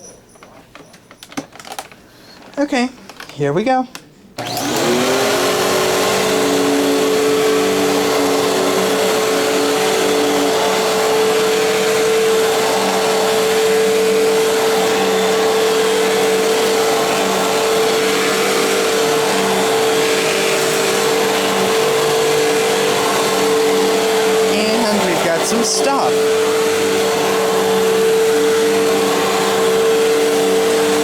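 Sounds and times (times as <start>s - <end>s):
vacuum cleaner running on carpet: 4.4s - 31.0s.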